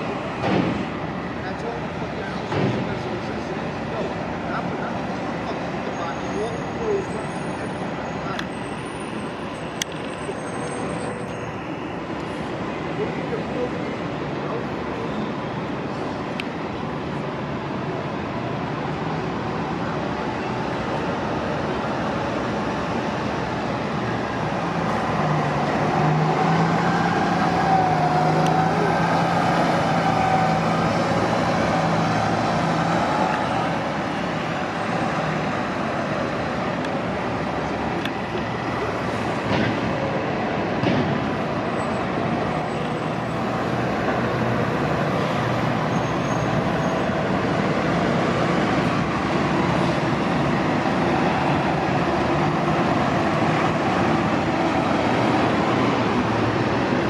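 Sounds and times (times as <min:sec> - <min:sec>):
bus engine hum: 0:00.0 - 0:57.0
traffic noise: 0:00.0 - 0:57.0.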